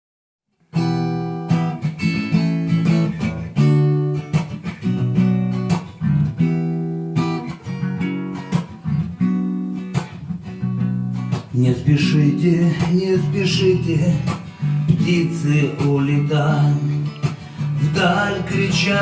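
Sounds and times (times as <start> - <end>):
acoustic guitar strumming chords: 0.7 - 19.0.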